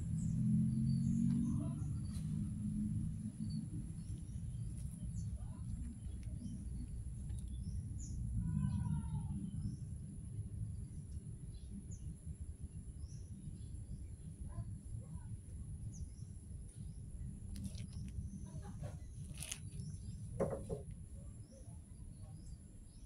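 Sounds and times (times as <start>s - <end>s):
low microphone rumble: 0.0s - 22.6s
small birds chirping: 0.0s - 23.0s.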